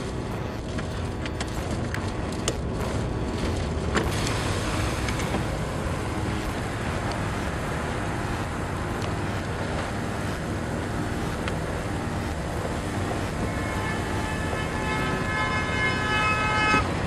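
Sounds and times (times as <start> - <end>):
vehicle rumble and rushing: 0.0 - 17.0.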